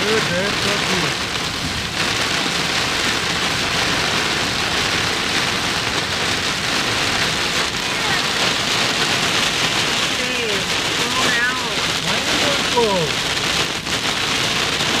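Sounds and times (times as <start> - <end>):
heavy rain on car roof: 0.0 - 15.0.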